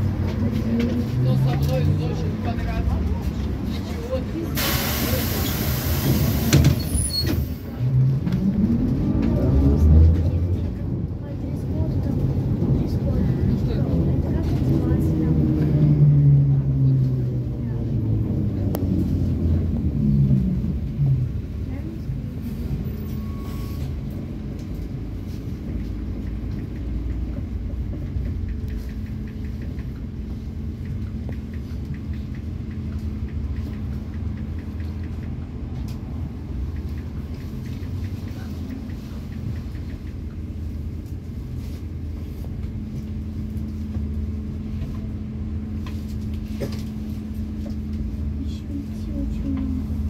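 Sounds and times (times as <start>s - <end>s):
tyres rumbling on road: 0.0s - 50.0s.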